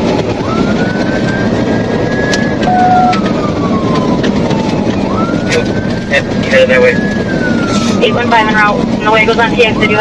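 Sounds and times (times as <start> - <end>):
car engine and road noise: 0.0 - 10.0
police siren wailing: 0.0 - 10.0.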